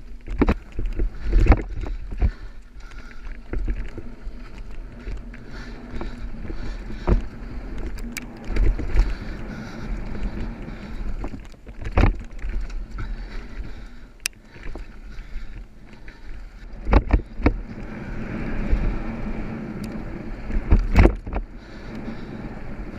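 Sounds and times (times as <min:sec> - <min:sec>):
bike knocking and rattling: 0:00.0 - 0:22.9
tyres rumbling on loose dirt: 0:00.0 - 0:22.9
wind buffeting microphone: 0:00.0 - 0:22.9.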